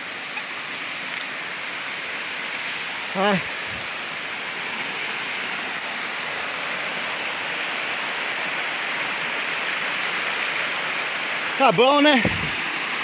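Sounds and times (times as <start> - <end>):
water rushing down rock: 0.0 - 13.0.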